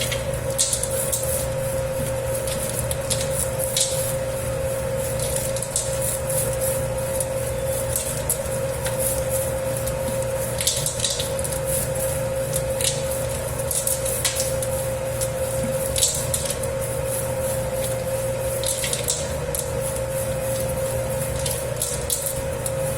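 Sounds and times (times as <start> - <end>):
dough mixer motor hum: 0.0 - 22.9
dough slapping and squelching: 0.0 - 22.9.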